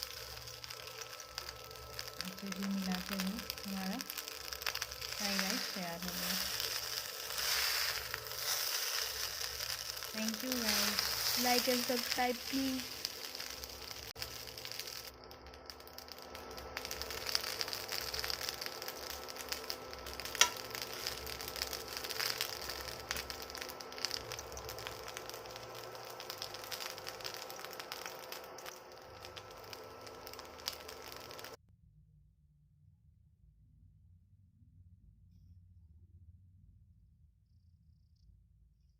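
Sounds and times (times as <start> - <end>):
food sizzling in oil: 0.0 - 31.6.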